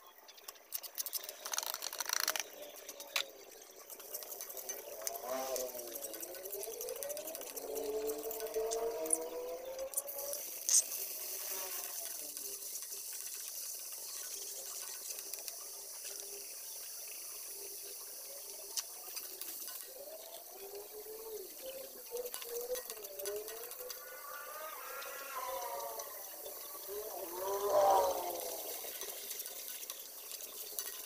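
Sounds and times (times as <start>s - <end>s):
food sizzling in hot oil: 0.6s - 31.0s.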